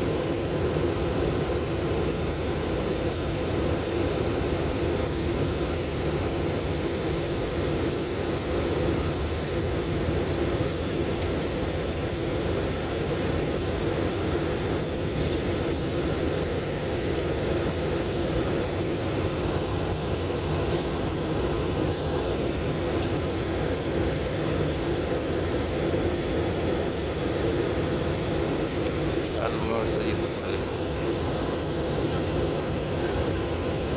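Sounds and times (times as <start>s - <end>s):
airliner cabin engine noise: 0.0s - 33.9s
faint high whine: 0.0s - 33.9s.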